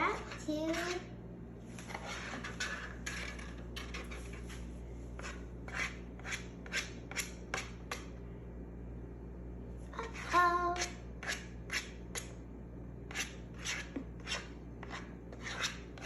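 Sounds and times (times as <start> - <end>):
spoon scraping mixing bowl: 0.0 - 1.1, 1.7 - 8.2, 10.0 - 12.4, 13.0 - 16.0.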